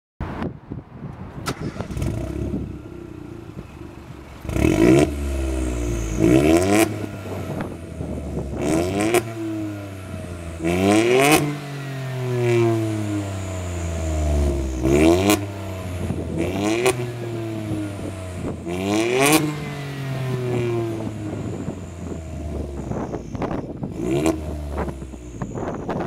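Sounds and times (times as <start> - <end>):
car engine revving: 1.5 - 26.0.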